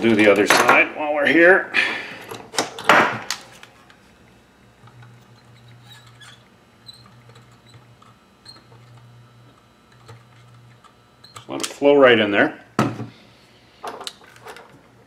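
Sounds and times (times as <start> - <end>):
soldering gun humming: 2.0 - 15.0.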